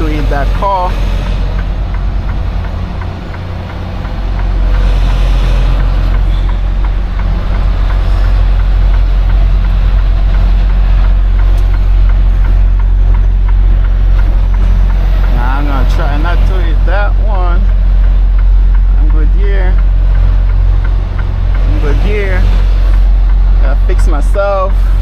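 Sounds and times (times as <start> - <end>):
diesel truck engine rumbling: 0.0 - 25.0.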